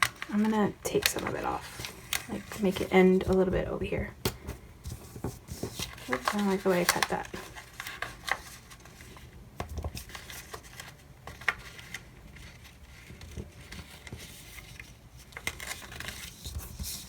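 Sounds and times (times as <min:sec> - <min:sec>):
paper pages rustling: 0:00.0 - 0:03.6, 0:04.4 - 0:17.0.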